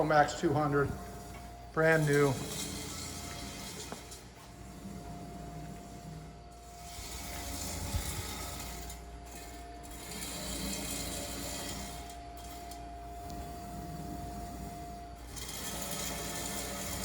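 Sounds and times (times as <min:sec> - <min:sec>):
mid-pitched whine: 0:00.0 - 0:17.0
plasma cutter hum: 0:00.0 - 0:17.0.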